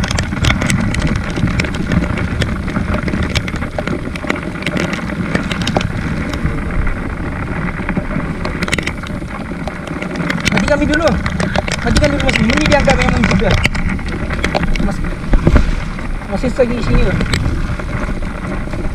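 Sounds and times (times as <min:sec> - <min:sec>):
sharp clicks and knocks: 0:00.0 - 0:06.5, 0:07.5 - 0:18.9
motorbike engine running at low revs: 0:00.0 - 0:18.9.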